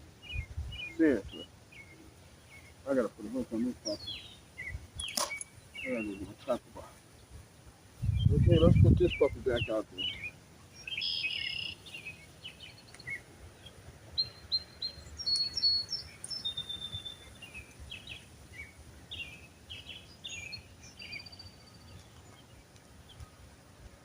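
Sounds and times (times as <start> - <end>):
faint outdoor background: 0.0 - 24.0
wild birds chirping: 0.0 - 24.0.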